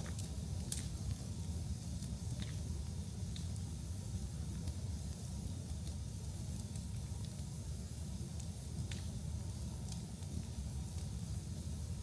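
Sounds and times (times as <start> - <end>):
fire crackles: 0.0 - 12.0
wood fire rumbling and hissing: 0.0 - 12.0.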